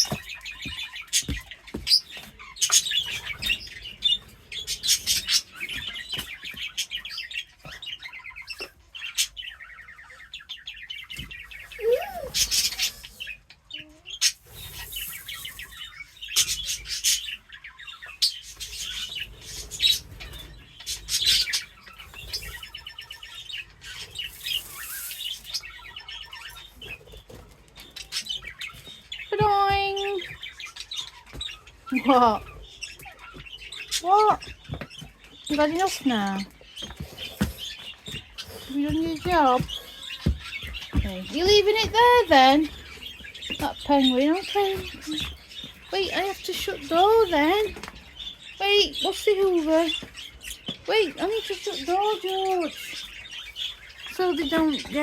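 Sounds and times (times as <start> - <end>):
caged birds chirping: 0.0 - 55.0.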